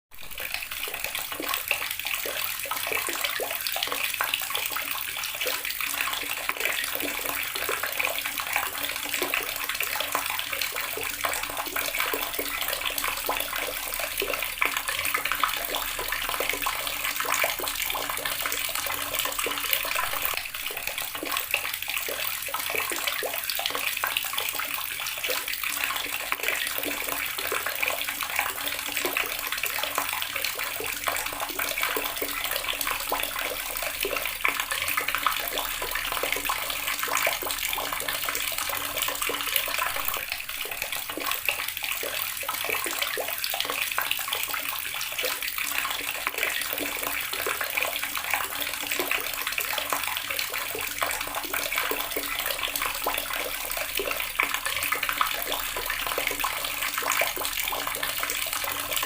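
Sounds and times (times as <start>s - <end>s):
tap water splashing into basin: 0.3s - 59.0s.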